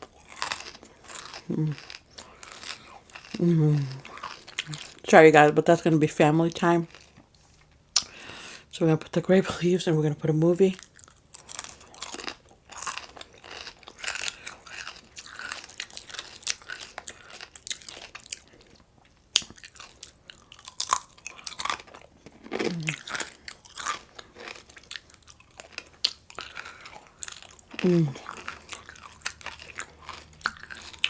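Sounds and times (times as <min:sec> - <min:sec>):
crunchy bites and chewing: 0:00.0 - 0:05.0, 0:10.8 - 0:31.0.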